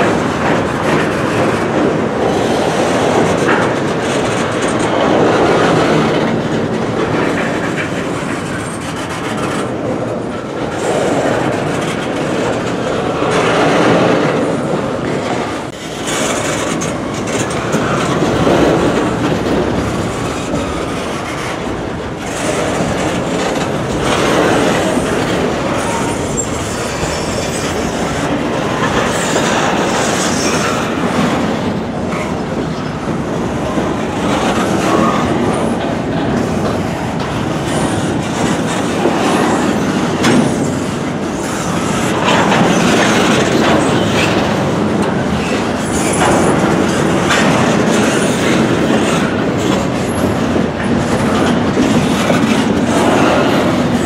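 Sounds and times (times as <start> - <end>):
train wheels rumbling on rail: 0.0 - 54.0
wheel clickety-clack: 0.0 - 54.0.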